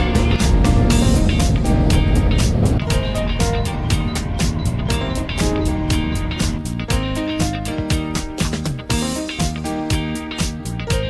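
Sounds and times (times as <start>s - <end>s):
upbeat music with plucked guitar: 0.0s - 11.0s.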